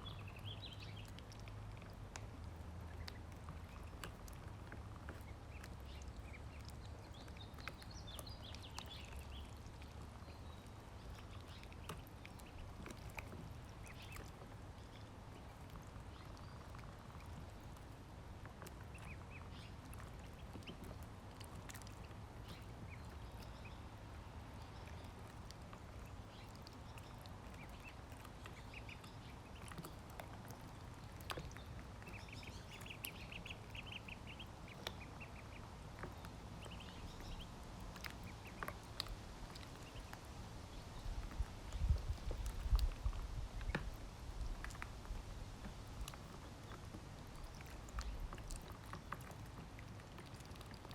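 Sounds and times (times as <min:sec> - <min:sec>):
ducklings peeping: 0:00.0 - 0:45.2, 0:46.0 - 0:50.9.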